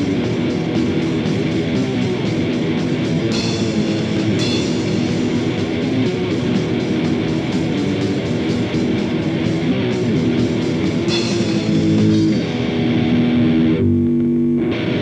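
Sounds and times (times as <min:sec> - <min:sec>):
drum kit fast beat: 0:00.0 - 0:12.8
distorted electric guitar riffing: 0:00.0 - 0:15.0.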